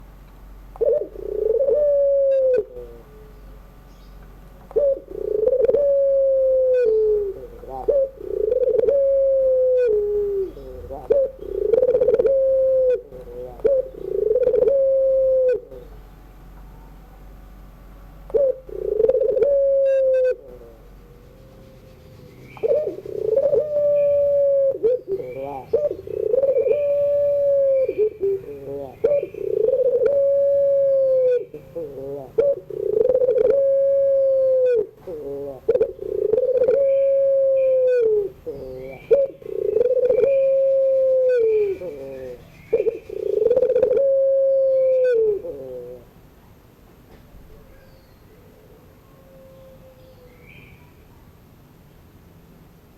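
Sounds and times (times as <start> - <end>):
dove cooing: 0.7 - 3.5, 4.7 - 16.0, 18.3 - 46.3, 48.6 - 50.8.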